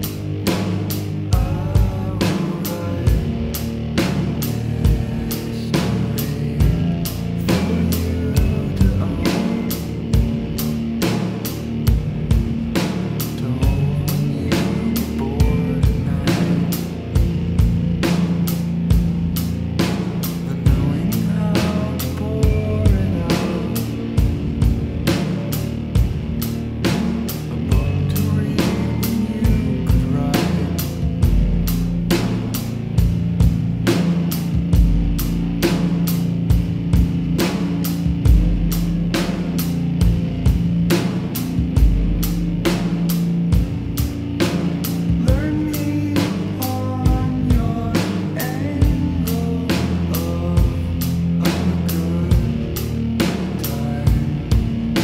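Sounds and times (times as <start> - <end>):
drum kit steady beat: 0.0 - 55.0
held guitar and bass notes: 0.0 - 55.0
rock music: 0.0 - 55.0.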